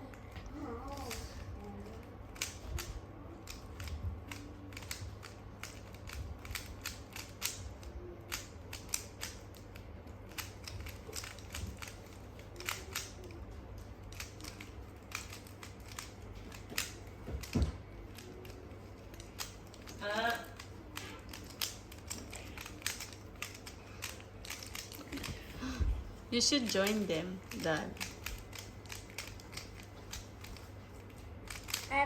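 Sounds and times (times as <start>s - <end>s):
puzzle cube twisting clicks: 2.3s - 13.4s, 14.0s - 25.3s, 26.8s - 31.9s.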